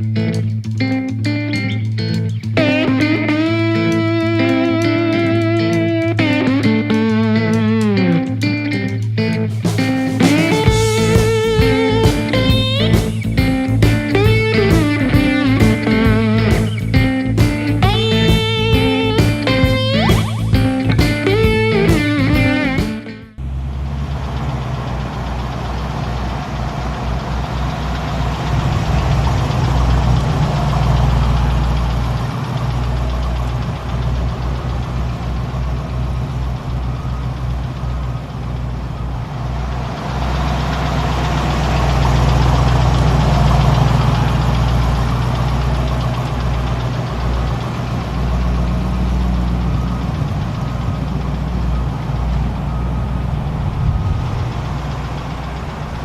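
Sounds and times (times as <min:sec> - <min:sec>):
vee eight engine running: 0:00.0 - 0:56.0.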